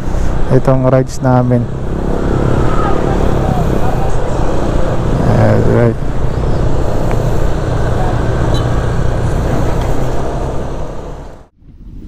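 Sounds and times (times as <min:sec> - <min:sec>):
scooter engine cruising: 0:00.0 - 0:11.5
wind and road noise: 0:00.0 - 0:12.0.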